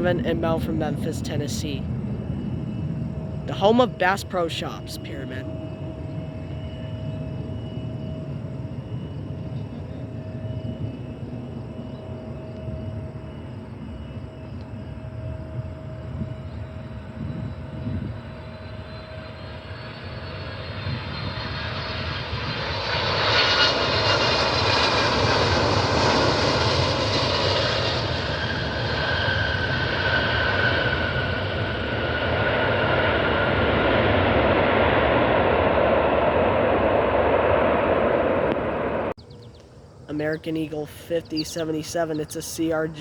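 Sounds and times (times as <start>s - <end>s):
high jet engine whine: 0.0s - 43.0s
jet engine roar: 0.0s - 43.0s.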